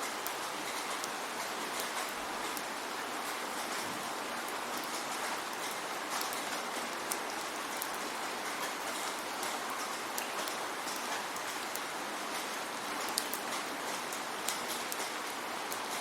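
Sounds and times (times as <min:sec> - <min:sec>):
raindrop ticks: 0:00.0 - 0:16.0
steady rainfall: 0:00.0 - 0:16.0.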